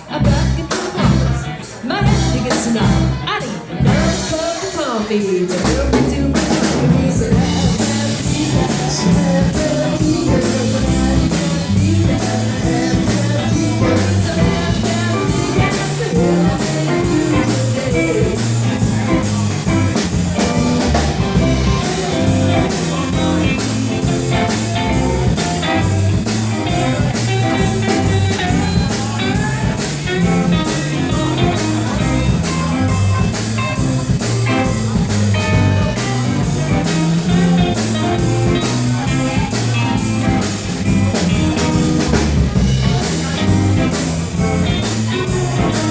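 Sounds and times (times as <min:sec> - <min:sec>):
blues band playing live: 0:00.0 - 0:45.9.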